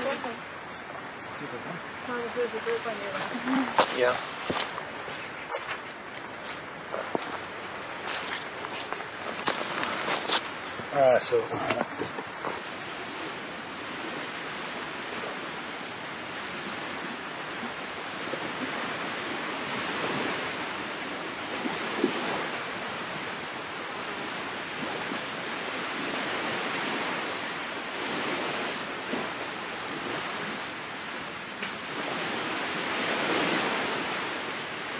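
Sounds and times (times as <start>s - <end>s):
sea surf washing onto beach: 0.0s - 34.9s.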